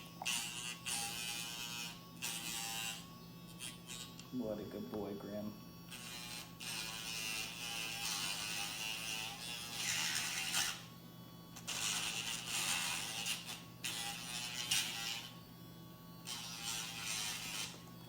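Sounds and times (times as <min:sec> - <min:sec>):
high grinding on nails: 0:00.0 - 0:04.3, 0:05.9 - 0:10.9, 0:11.6 - 0:15.4, 0:16.2 - 0:17.9.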